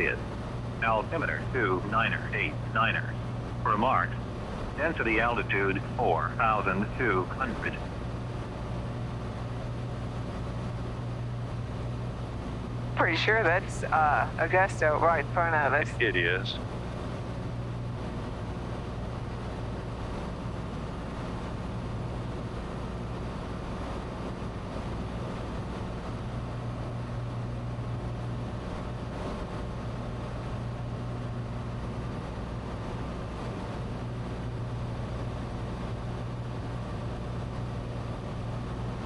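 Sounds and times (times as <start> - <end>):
airplane engine and propeller drone: 0.0 - 39.0.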